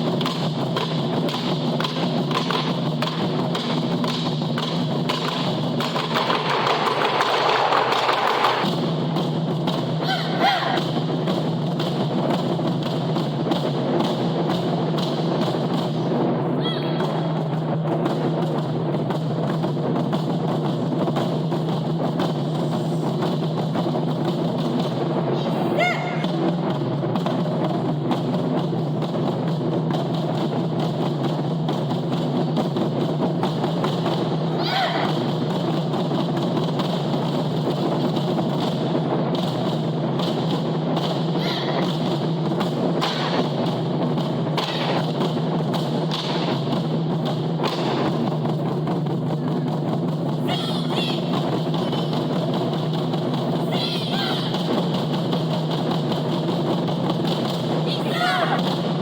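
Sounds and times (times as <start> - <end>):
drum ensemble strikes: 0.0 - 59.0.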